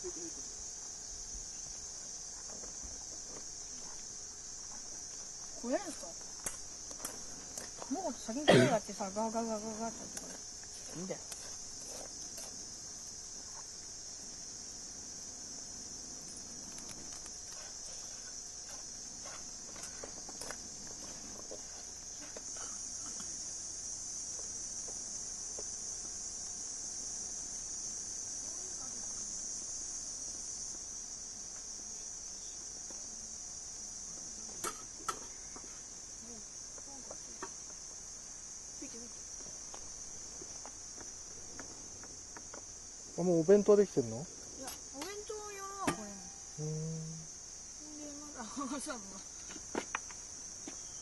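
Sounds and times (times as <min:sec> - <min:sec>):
insects chirping: 0:00.0 - 0:51.0.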